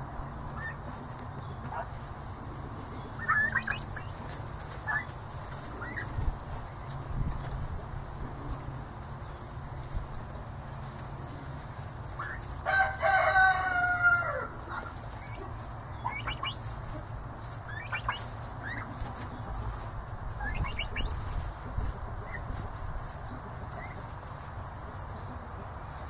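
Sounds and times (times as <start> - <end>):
pecking and rustling in grass: 0.0 - 26.0
young turkeys trilling: 0.0 - 26.0.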